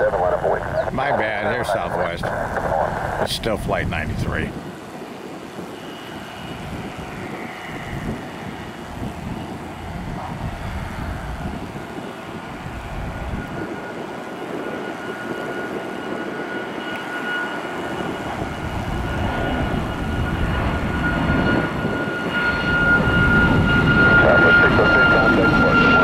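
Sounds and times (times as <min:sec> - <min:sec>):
jet engines climbing: 0:00.0 - 0:26.0.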